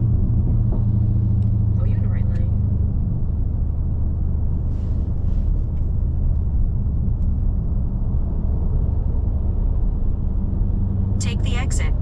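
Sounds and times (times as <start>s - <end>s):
car engine exhaust drone: 0.0s - 12.0s.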